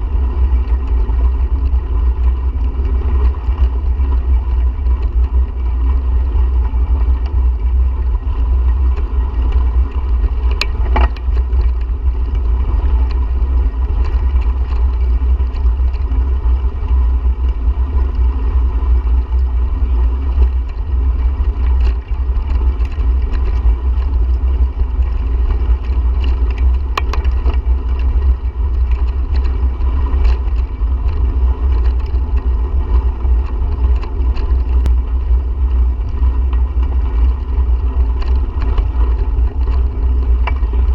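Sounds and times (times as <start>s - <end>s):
bicycle tyre noise: 0.0s - 40.9s
wind rumble on microphone: 0.0s - 40.9s.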